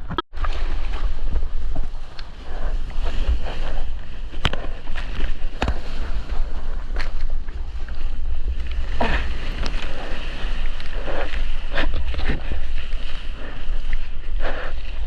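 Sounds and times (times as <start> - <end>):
water splashing and rushing: 0.0 - 15.0
wind rumbling on microphone: 0.0 - 15.0.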